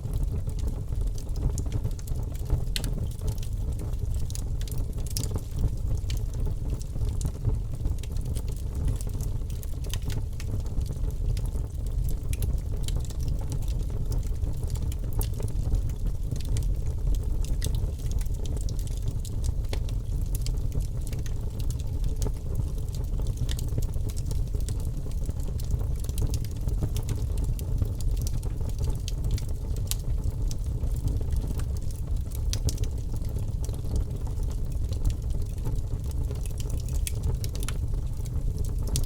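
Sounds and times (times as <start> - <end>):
low rumble of flames: 0.0 - 39.0
wood fire crackling: 0.0 - 39.0.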